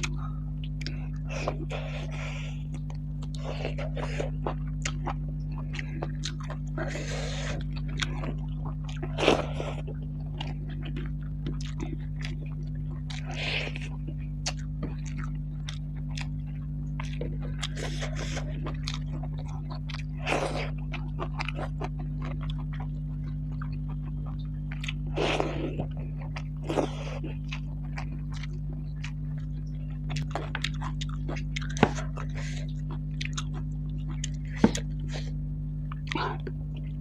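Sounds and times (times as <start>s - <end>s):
person chewing food: 0.0s - 37.0s
steady low hum: 0.0s - 37.0s.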